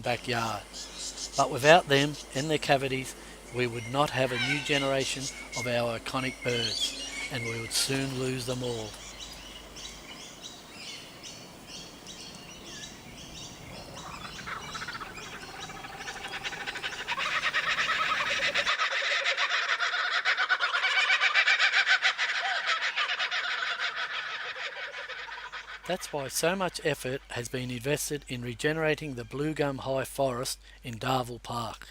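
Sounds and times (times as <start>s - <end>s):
birds chattering harshly: 0.0s - 29.8s.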